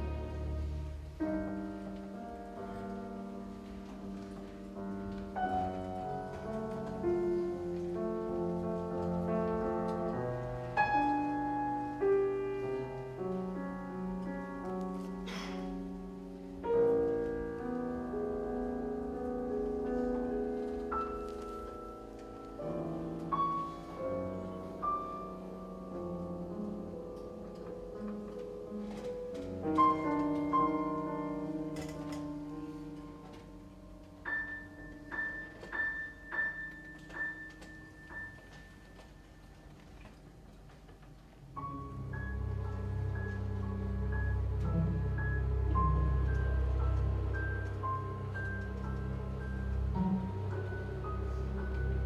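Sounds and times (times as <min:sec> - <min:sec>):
piano and string orchestra: 0:00.0 - 0:52.0.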